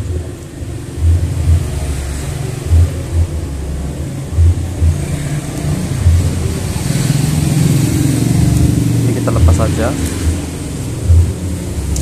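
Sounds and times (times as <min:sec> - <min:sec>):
distant bass-heavy party music: 0:00.0 - 0:12.0.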